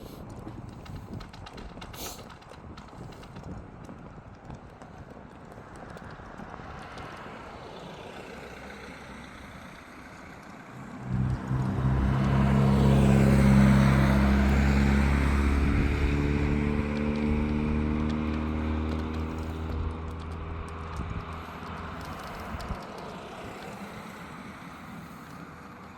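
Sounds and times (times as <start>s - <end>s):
tyre noise on asphalt: 0.0s - 25.9s
vehicle engine hum: 4.4s - 25.9s.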